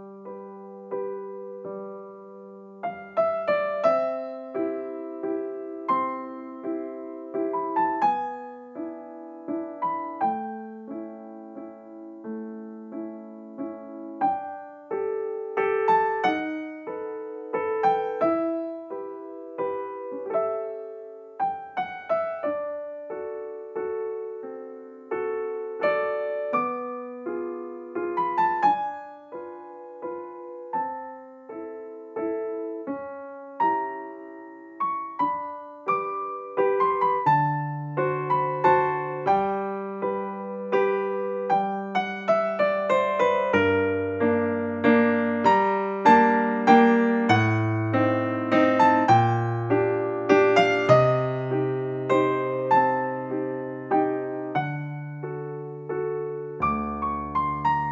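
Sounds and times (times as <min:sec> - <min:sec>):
gentle piano music: 0:00.0 - 0:57.9.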